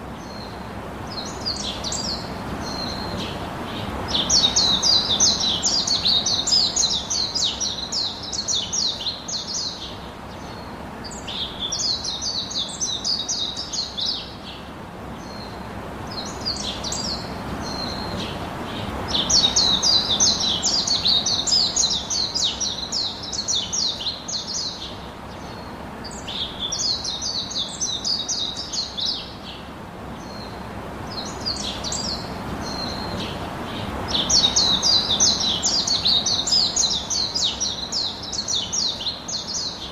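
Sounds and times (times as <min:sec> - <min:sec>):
low background hiss: 0:00.0 - 0:39.9
songbirds chirping: 0:00.0 - 0:39.9.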